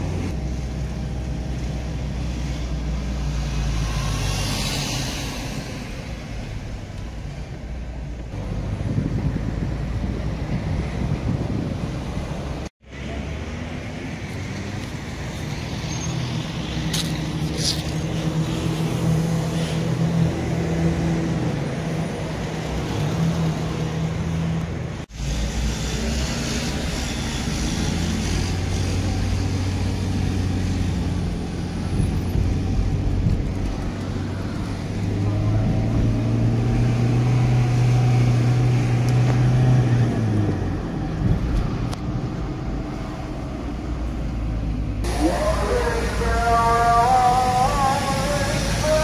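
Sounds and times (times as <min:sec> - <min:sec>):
car engine drone: 0:00.0 - 0:49.0
road noise: 0:00.0 - 0:49.0.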